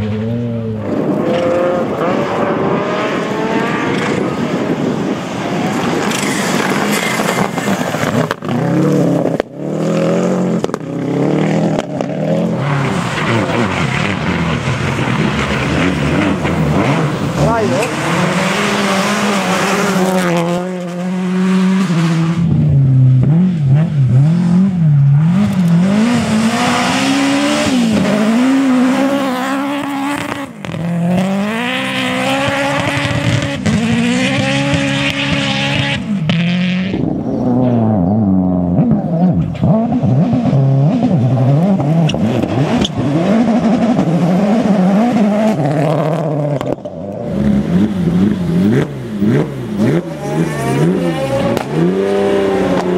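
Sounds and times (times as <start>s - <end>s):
rally car engines at full throttle: 0.0s - 52.9s.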